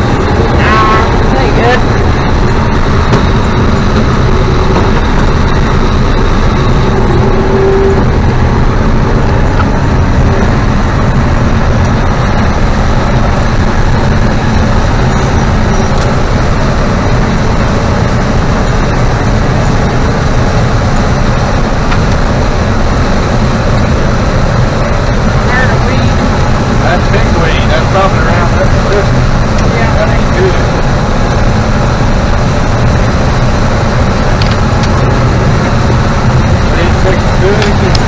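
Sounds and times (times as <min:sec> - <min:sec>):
combine harvester drone: 0:00.0 - 0:38.0.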